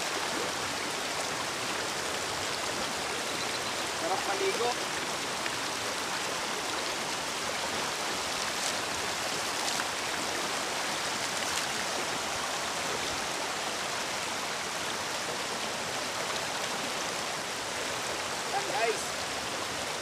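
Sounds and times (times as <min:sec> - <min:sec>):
river rapids rushing over rocks: 0:00.1 - 0:20.0.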